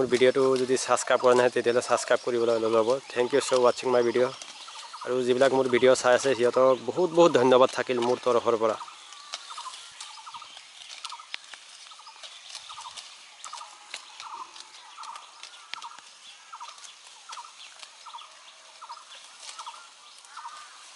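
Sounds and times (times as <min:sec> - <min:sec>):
goats tearing and chewing grass: 0:00.0 - 0:20.9.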